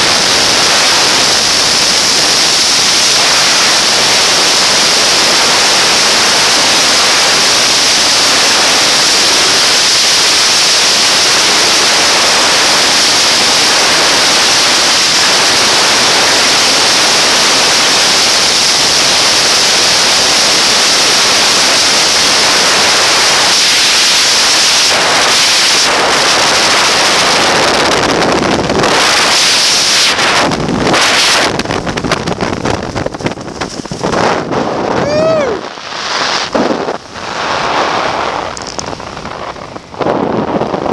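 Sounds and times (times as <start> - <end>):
freefall wind rushing: 0.0 - 40.9.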